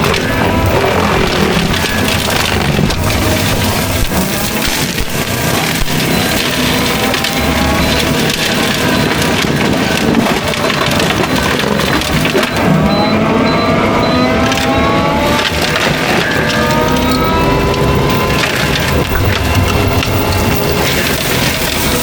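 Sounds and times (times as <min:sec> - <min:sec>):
mulcher grinding brush and wood: 0:00.0 - 0:22.0.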